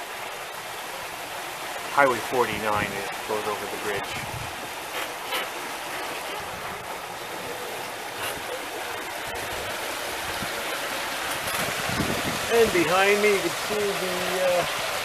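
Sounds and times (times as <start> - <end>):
choppy water rushing along hulls: 0.0 - 15.0
small water splashes: 0.0 - 15.0.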